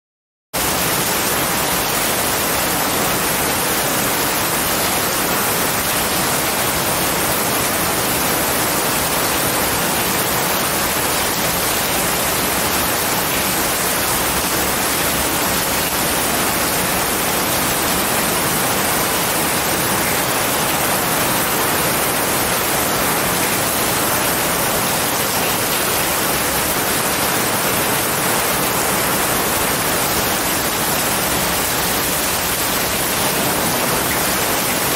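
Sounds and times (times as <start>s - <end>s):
heavy rain on forest: 0.6s - 34.9s.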